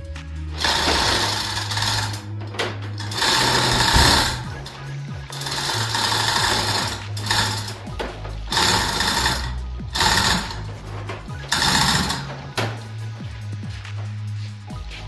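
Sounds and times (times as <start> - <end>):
rapid mechanical rattling: 0.0 - 15.0.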